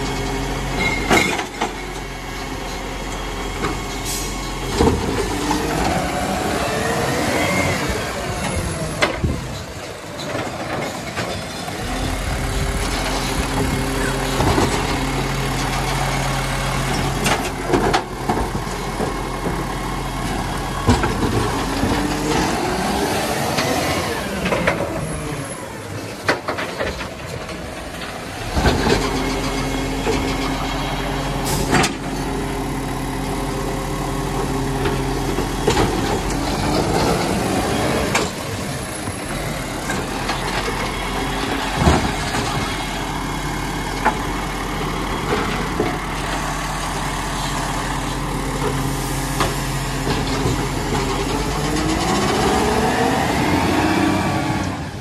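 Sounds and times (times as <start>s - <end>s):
hydraulic arm clanking bins: 0.0s - 55.0s
truck diesel engine running: 0.0s - 55.0s.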